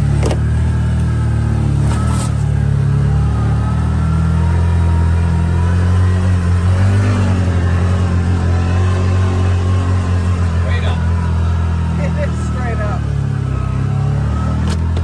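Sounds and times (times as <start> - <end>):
atv engine climbing under load: 0.0 - 15.0.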